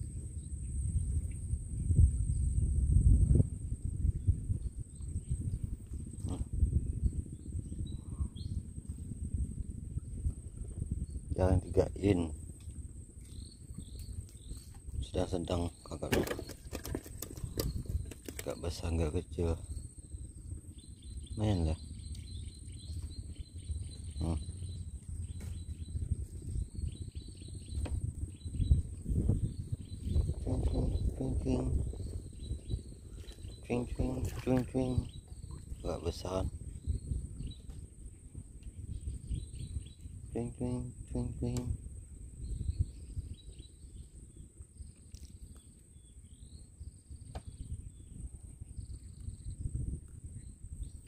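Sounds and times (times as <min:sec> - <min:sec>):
insects chirping: 0:00.0 - 0:51.0
low rumble: 0:00.0 - 0:51.0.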